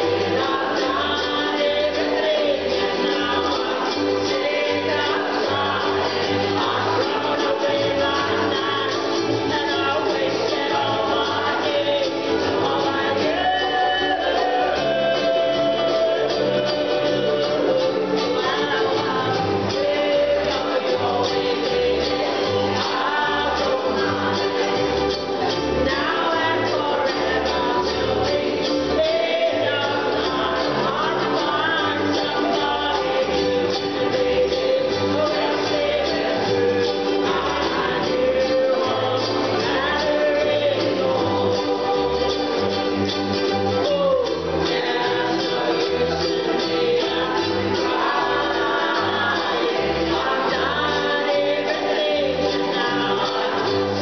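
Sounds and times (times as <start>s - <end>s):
people singing: 0.0s - 54.0s
ukulele ensemble strumming: 0.0s - 54.0s.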